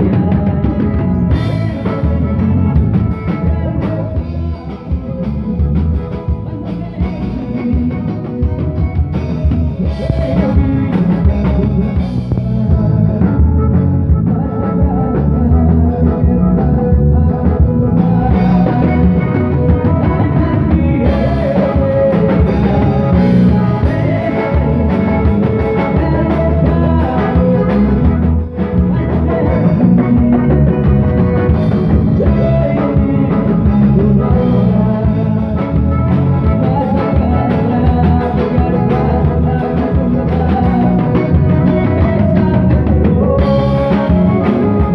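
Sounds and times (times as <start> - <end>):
accordion: 0.0 - 44.9
drum kit: 0.0 - 44.9
electric bass: 0.0 - 44.9
guitar: 0.0 - 44.9
person singing into a microphone: 0.0 - 44.9.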